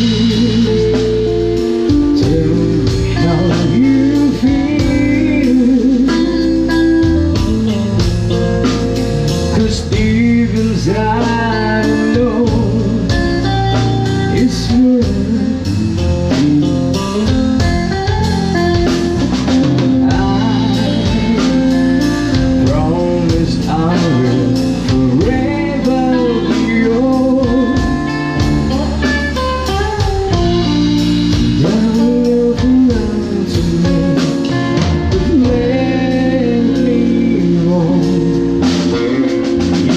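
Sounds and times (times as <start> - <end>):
drum strokes: 0.0 - 39.9
guitar: 0.0 - 39.9
person singing: 0.0 - 39.9.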